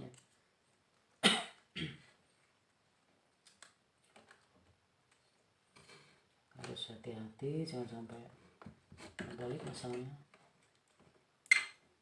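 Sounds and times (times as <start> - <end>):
faint clicks and rustles of cable: 0.0 - 7.5, 8.2 - 11.4.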